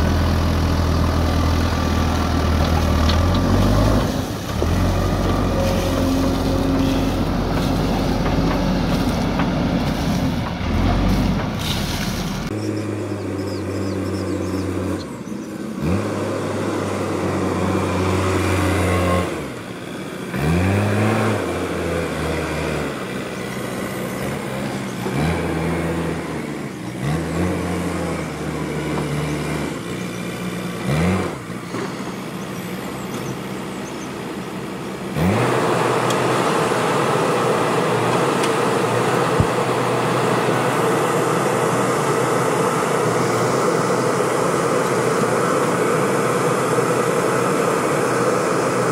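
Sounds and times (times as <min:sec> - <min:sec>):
backhoe diesel engine revving: 0:00.0 - 0:48.9.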